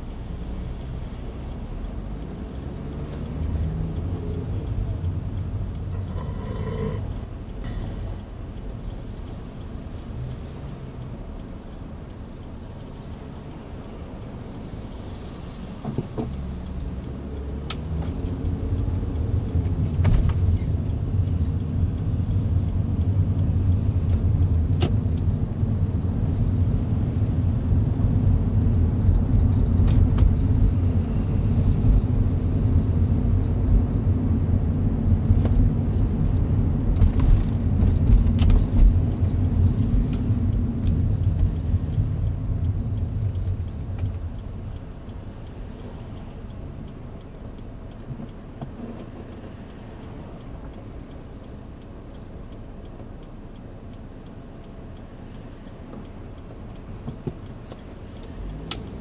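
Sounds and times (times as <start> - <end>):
car engine and road noise: 0.0 - 59.0
sharp ticks and rattles: 0.0 - 59.0.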